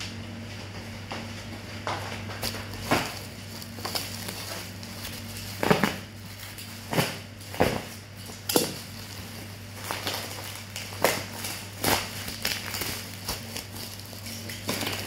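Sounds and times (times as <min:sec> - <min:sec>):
steady low hum: 0:00.0 - 0:15.0
packaging rustling: 0:02.2 - 0:15.0.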